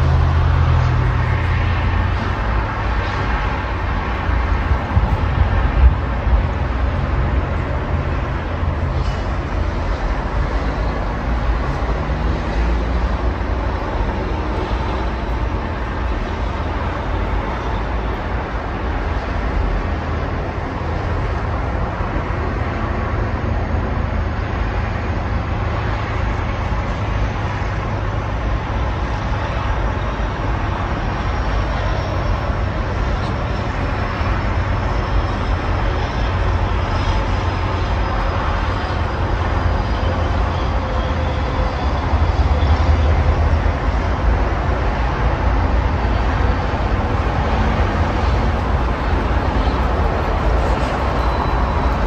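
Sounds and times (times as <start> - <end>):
highway traffic rumble: 0.0 - 52.0.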